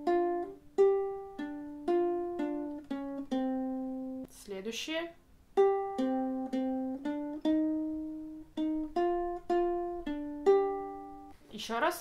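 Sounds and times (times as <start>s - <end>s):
ukulele plucked notes: 0.0s - 4.3s, 5.6s - 11.4s.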